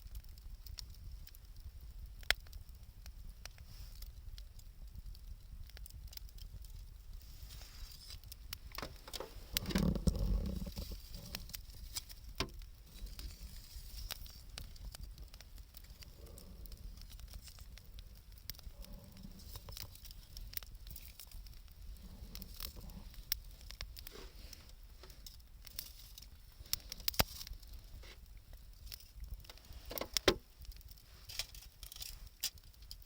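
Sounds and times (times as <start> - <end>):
wood campfire crackling: 0.0 - 33.0.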